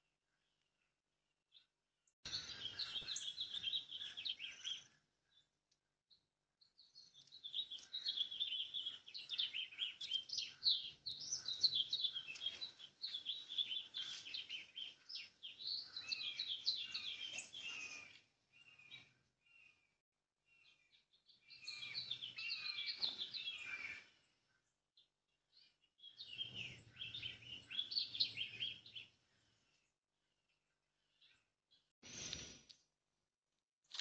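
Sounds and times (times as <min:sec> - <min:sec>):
songbirds chirping and trilling: 0:00.0 - 0:32.8.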